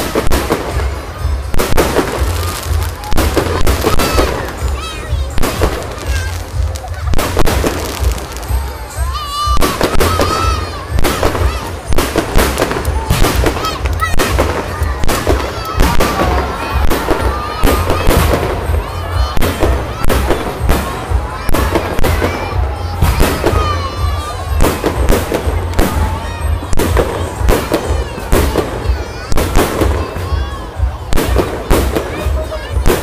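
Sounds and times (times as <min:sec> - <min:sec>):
fireworks banging: 0:00.0 - 0:33.0.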